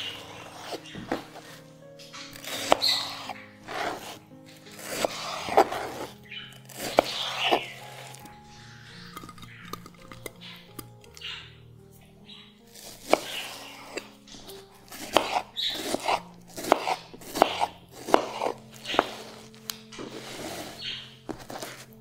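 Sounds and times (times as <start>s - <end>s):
knife slicing watermelon: 2.2s - 11.3s, 12.7s - 22.0s.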